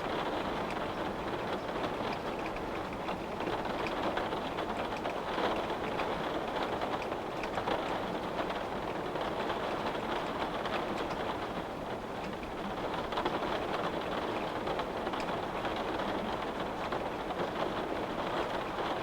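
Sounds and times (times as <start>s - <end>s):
rain pattering on a window: 0.0s - 19.0s.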